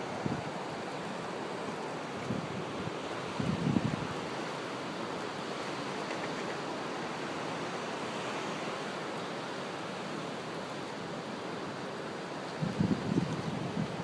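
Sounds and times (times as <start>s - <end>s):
ocean surf rushing: 0.0s - 14.0s.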